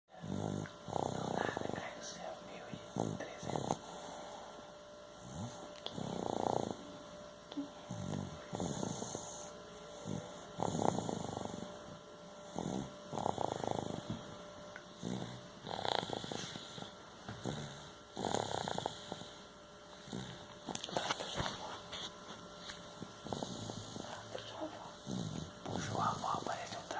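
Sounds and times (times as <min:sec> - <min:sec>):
person snoring: 0:00.2 - 0:04.6, 0:05.2 - 0:11.8, 0:12.4 - 0:14.3, 0:14.9 - 0:21.9, 0:23.2 - 0:26.9.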